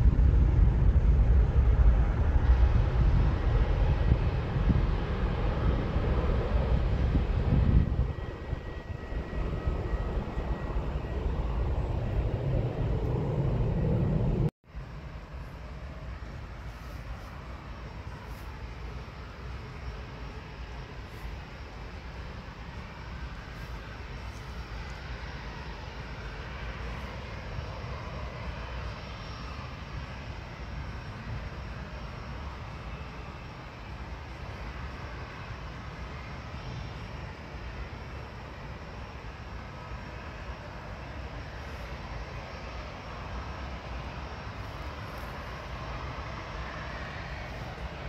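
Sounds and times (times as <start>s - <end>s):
distant jet engines rumbling: 0.0s - 48.0s
faint high whine: 0.0s - 48.0s.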